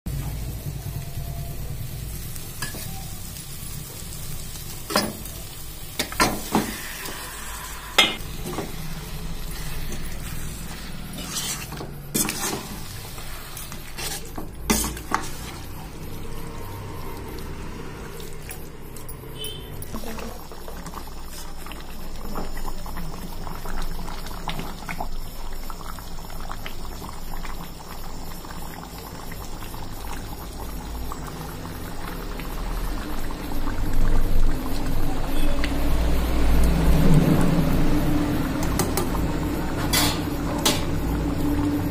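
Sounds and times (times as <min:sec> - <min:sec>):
chicken sizzling: 0:00.1 - 0:41.9.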